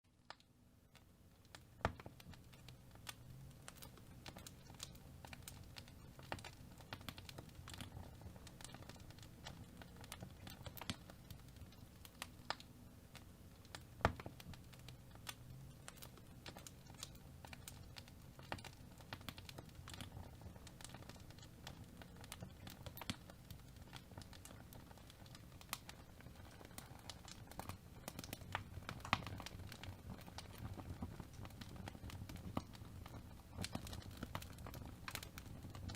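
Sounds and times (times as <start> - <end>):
fire crackling in a fireplace: 0.1 - 35.9
low rumble of flame: 1.0 - 35.9.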